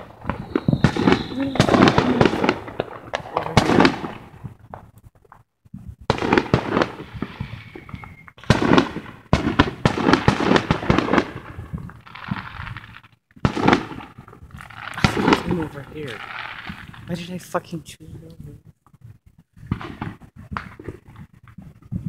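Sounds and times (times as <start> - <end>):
fireworks bangs and crackling: 0.0 - 18.3, 19.2 - 22.0.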